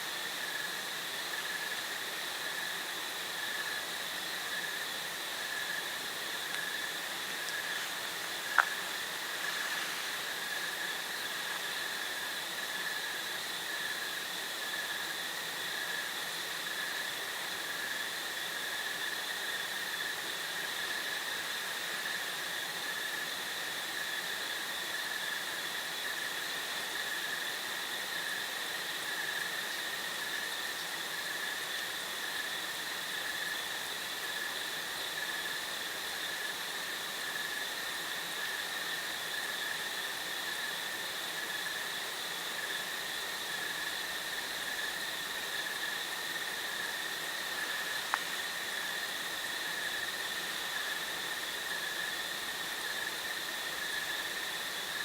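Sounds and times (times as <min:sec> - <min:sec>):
crickets chirping: 0:00.0 - 0:55.0
faint background hiss: 0:00.0 - 0:55.0.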